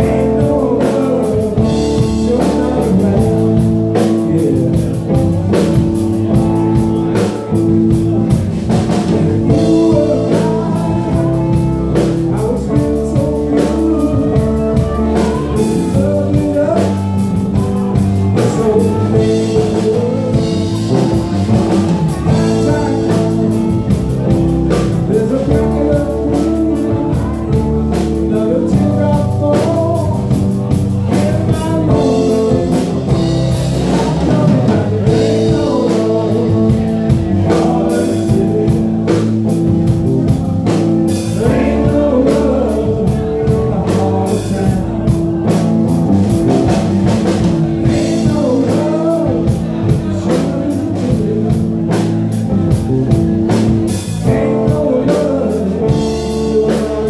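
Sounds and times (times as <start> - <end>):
blues rock band playing: 0.0 - 57.0.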